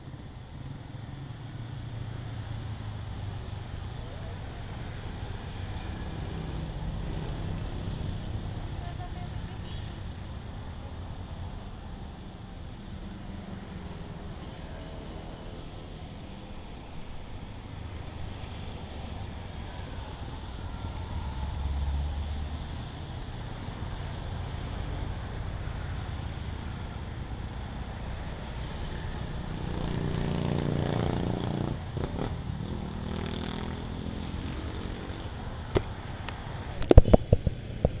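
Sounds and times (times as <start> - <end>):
cars passing: 0.0 - 38.0
low traffic rumble: 0.0 - 38.0
motorcycles passing: 0.0 - 38.0.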